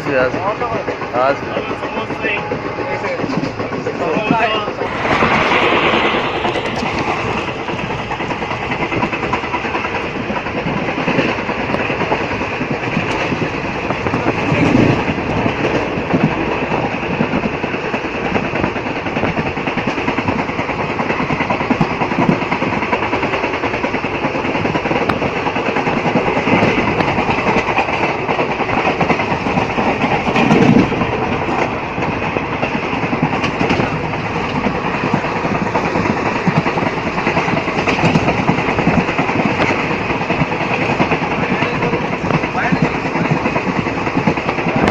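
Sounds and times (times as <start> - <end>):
train coach rumbling and rattling: 0.0 - 44.9.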